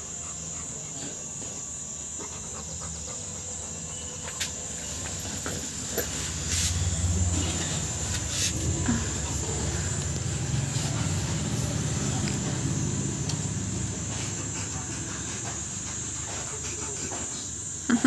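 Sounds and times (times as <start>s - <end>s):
dog breathing and sniffing: 0.0s - 17.8s.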